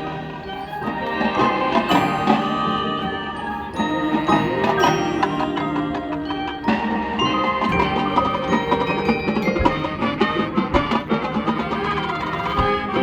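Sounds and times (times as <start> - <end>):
mallet percussion notes: 0.0 - 13.0
marching band playing: 0.0 - 13.0.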